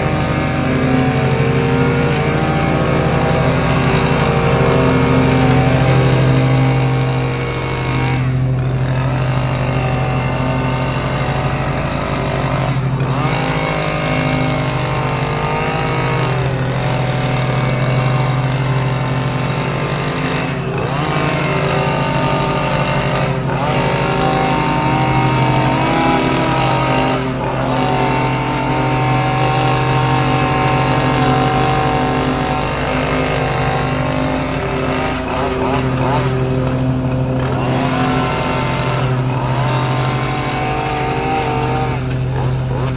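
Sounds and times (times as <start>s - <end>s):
hedge trimmer engine cutting: 0.0s - 42.9s.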